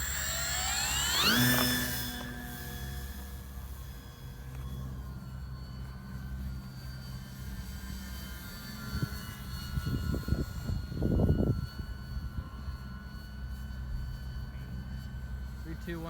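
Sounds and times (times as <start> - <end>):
model airplane motor whining: 0.0 - 16.0.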